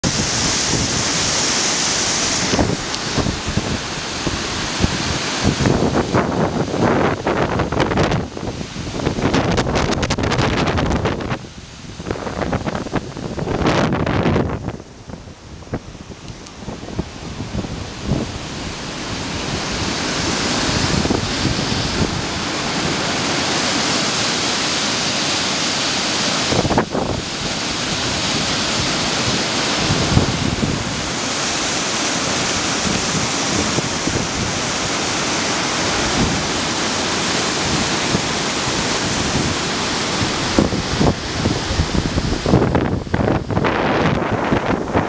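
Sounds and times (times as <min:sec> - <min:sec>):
stream rushing over rocks: 0:00.0 - 0:45.0
wind buffeting microphone: 0:00.0 - 0:45.0.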